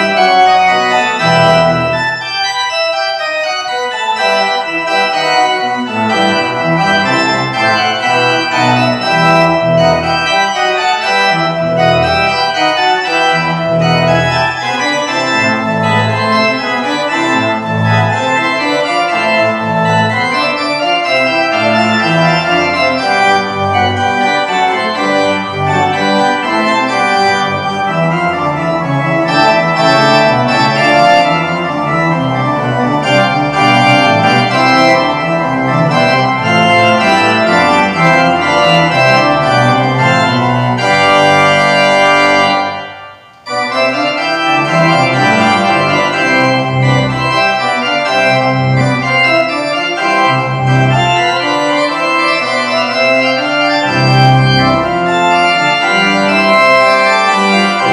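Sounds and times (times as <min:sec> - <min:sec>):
church organ playing chords: 0:00.0 - 0:57.9.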